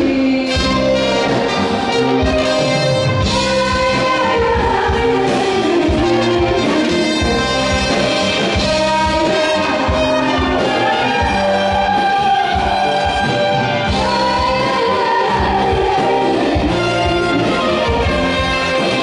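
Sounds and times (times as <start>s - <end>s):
band accompaniment with steady beat: 0.0s - 19.0s
trumpet and trombone melody: 0.3s - 19.0s.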